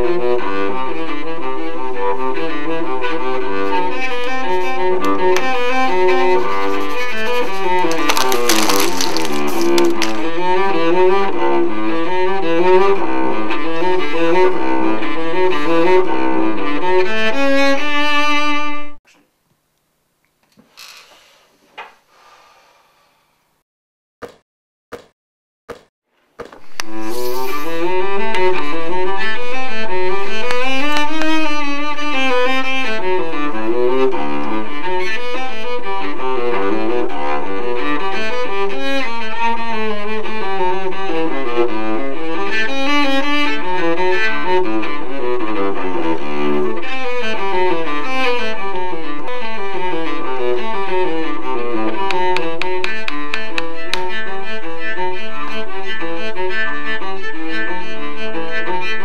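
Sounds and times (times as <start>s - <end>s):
bowed strings melody: 0.0s - 19.0s, 26.6s - 59.0s.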